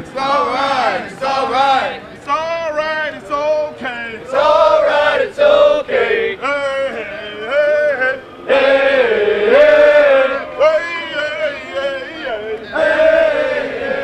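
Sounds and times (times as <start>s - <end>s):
soldiers chanting cadence: 0.0s - 14.0s.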